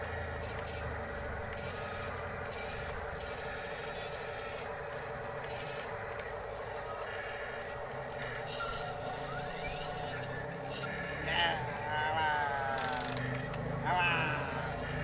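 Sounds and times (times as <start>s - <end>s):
fast-pulsing mechanical hum: 0.0s - 15.0s
high motor whine: 0.0s - 15.0s.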